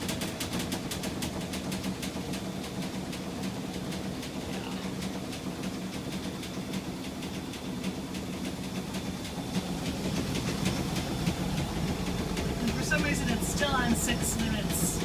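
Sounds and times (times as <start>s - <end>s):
washing machine hum: 0.0s - 15.0s
washing machine rattling knocks: 0.0s - 15.0s.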